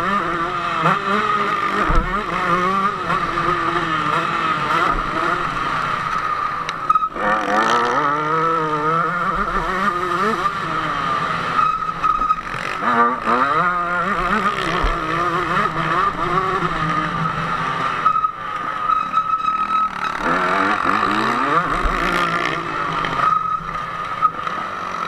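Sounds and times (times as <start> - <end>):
two-stroke motocross engine revving: 0.0 - 18.8, 19.6 - 25.0.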